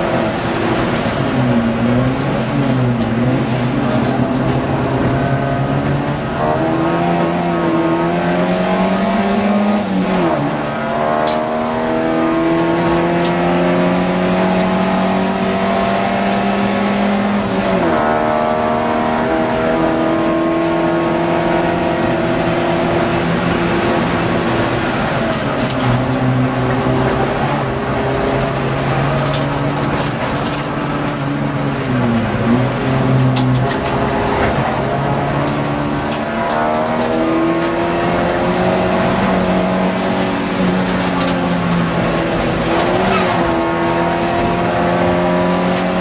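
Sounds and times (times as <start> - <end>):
race car engine accelerating: 0.0 - 46.0.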